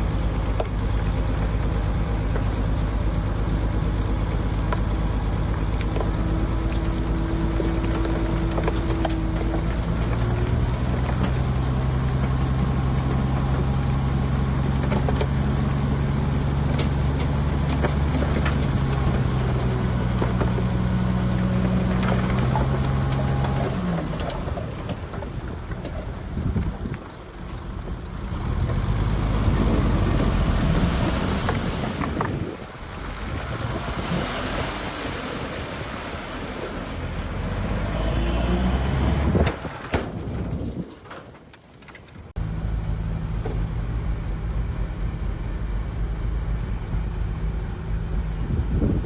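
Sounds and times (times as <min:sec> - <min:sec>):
heavy diesel engine running: 0:00.0 - 0:40.8.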